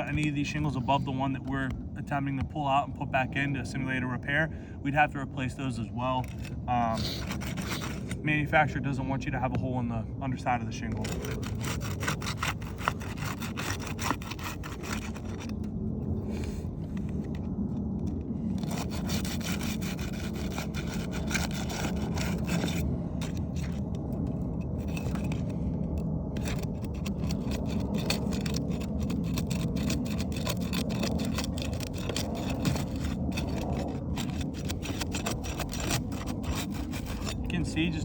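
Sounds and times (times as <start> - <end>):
flat bar scraping under shingles: 0.0 - 4.3, 4.9 - 9.7, 10.6 - 17.4, 18.1 - 38.0.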